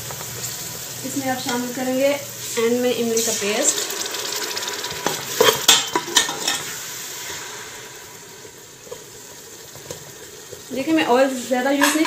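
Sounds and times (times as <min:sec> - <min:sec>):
frying sizzle: 0:00.0 - 0:12.0.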